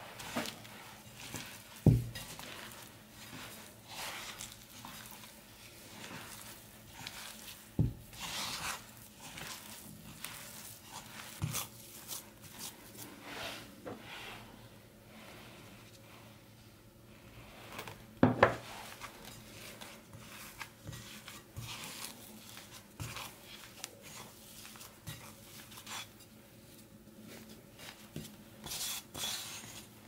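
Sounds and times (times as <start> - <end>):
hands squishing dough: 0.0 - 30.0.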